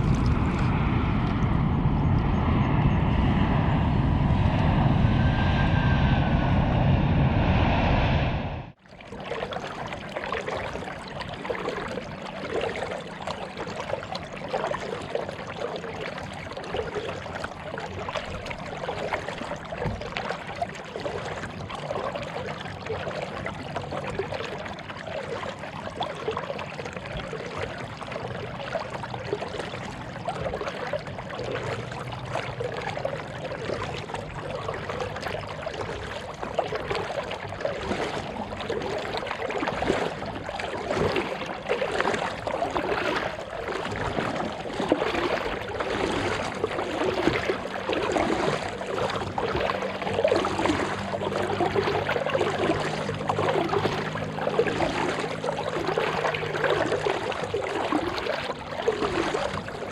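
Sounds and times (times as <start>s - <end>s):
water splashing and trickling: 0.0s - 1.6s, 8.8s - 59.9s.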